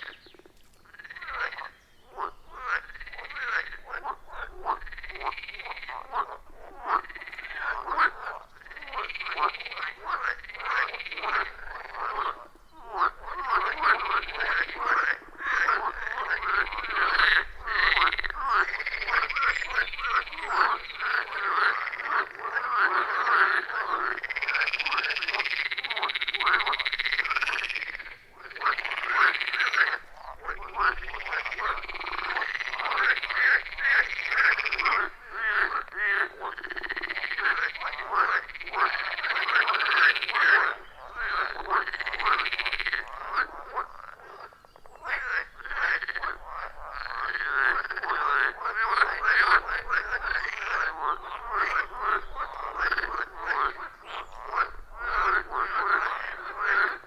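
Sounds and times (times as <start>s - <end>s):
frogs croaking chorus: 0.0s - 57.0s.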